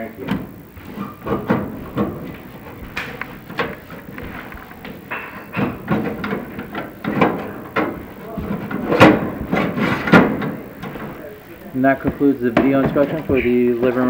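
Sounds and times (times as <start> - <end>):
sharp knocks: 0.0 - 11.3
equipment knocking and clattering: 0.0 - 14.0.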